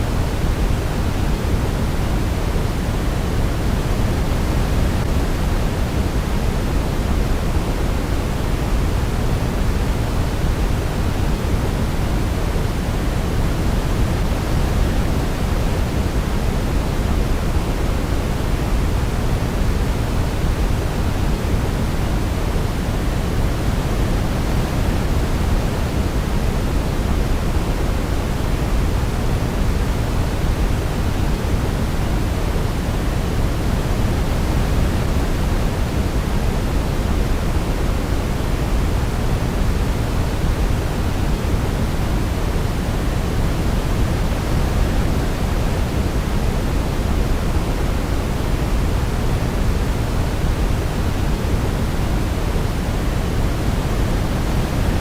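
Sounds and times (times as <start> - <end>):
steady low hiss: 0.0 - 55.0.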